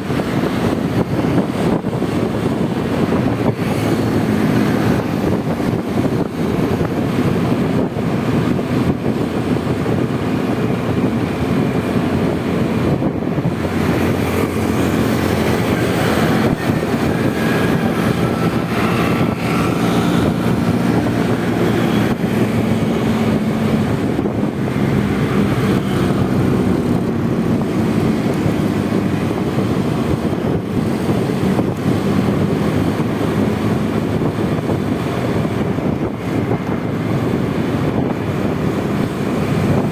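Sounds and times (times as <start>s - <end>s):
scooter engine humming: 0.0s - 39.9s
wind rushing over microphone: 0.0s - 39.9s.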